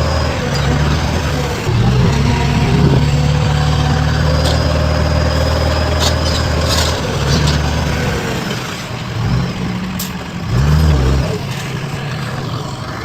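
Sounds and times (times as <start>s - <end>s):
diesel engine running at low revs: 0.0s - 13.0s.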